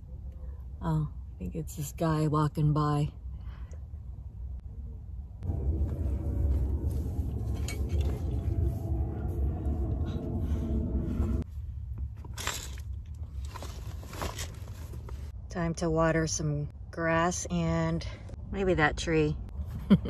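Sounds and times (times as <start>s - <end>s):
vehicle rumble with hum: 0.0s - 20.0s.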